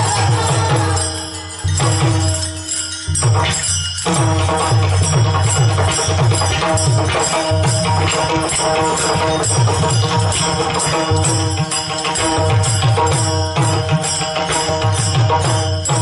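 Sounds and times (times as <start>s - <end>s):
held melodic tones: 0.0s - 16.0s
rhythmic drumming: 0.0s - 16.0s.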